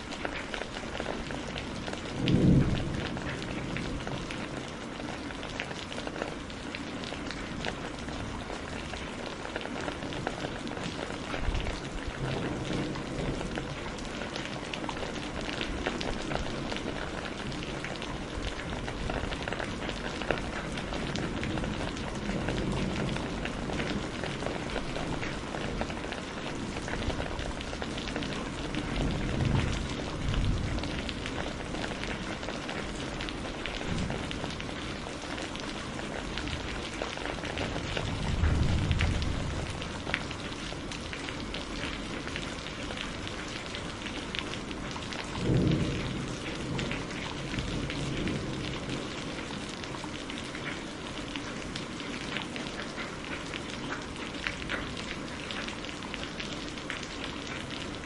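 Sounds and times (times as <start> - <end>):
rain patter: 0.0 - 58.0
low rumbles of thunder: 0.6 - 9.4, 10.2 - 50.4.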